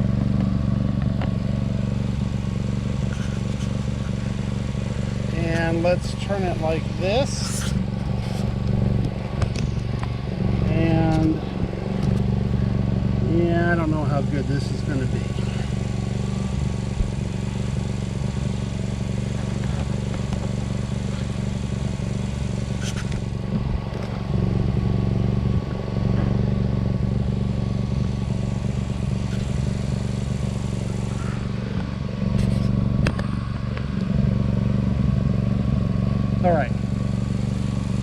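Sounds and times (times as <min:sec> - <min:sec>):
inverter generator running: 0:00.0 - 0:38.0.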